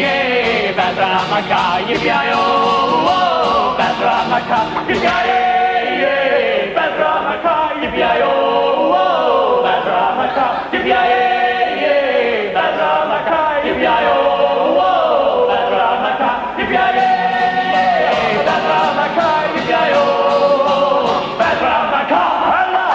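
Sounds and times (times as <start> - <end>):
men singing in harmony: 0.0 - 22.9.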